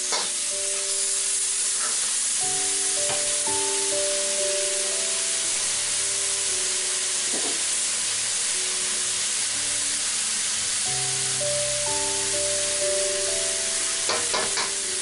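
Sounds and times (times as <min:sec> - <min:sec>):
food sizzling in hot oil: 0:00.0 - 0:15.0
soft background music: 0:00.0 - 0:15.0.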